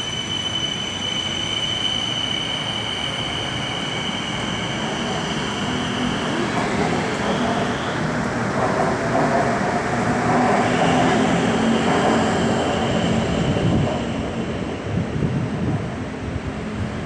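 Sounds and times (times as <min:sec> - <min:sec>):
high-pitched train whine: 0:00.0 - 0:17.0.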